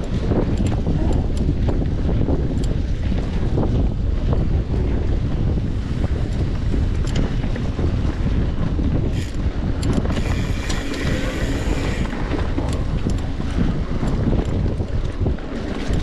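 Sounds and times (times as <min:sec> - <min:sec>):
bicycle clicks and rattles: 0:00.0 - 0:16.0
wind buffeting microphone: 0:00.0 - 0:16.0.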